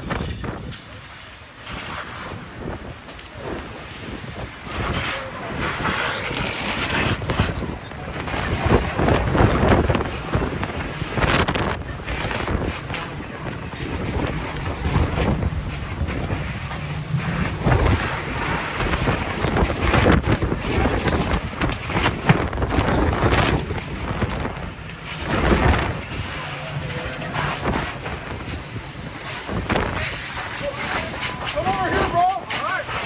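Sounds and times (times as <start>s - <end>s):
gusty wind buffeting microphone: 0.0s - 33.0s.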